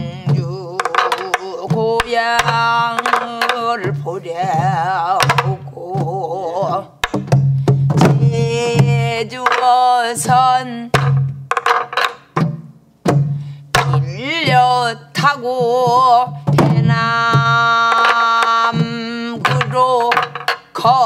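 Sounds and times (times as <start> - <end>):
woman singing with vibrato: 0.0 - 7.1, 8.0 - 11.2, 13.8 - 21.0
barrel drum strokes: 0.0 - 20.9.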